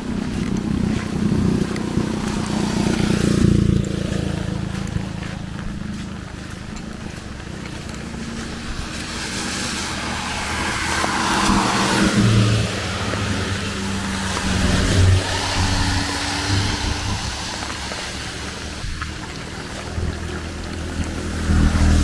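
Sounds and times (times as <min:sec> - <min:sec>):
motor vehicle passing: 0:00.0 - 0:22.0
rain: 0:00.0 - 0:22.0.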